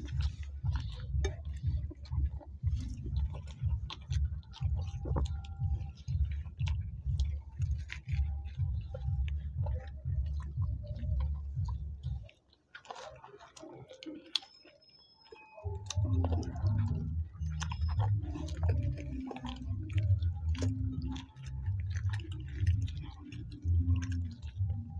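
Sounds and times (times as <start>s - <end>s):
lip-smacking clicks: 0.0s - 24.9s
people chewing food: 0.0s - 24.9s.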